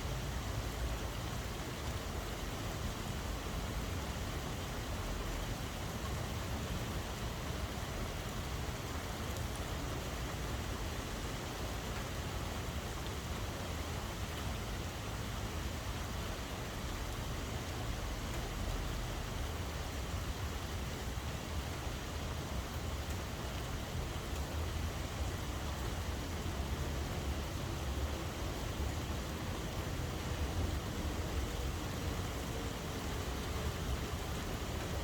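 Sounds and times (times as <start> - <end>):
continuous low rumble: 0.0 - 35.0
steady rain falling: 0.0 - 35.0.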